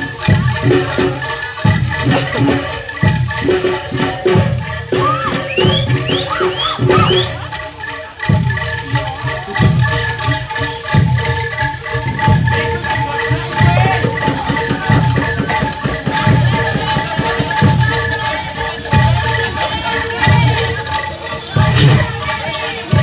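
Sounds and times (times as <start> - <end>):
rattling percussion: 0.0 - 23.0.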